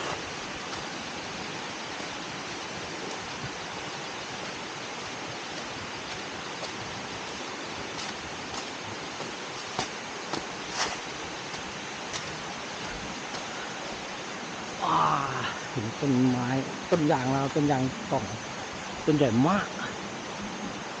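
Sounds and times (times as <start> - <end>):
waterfall and stream rushing: 0.0 - 21.0.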